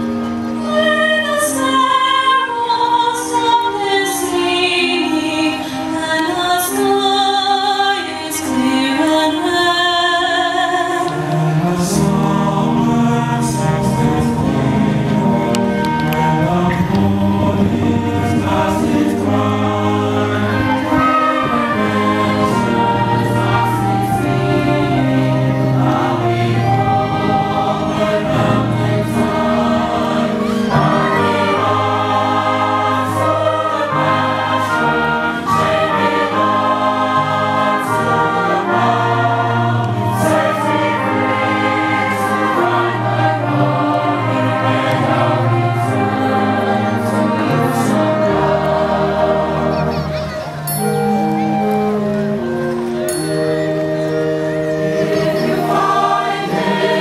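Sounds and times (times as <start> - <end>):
concert band with brass: 0.0 - 57.0
mixed choir singing in harmony: 0.0 - 57.0.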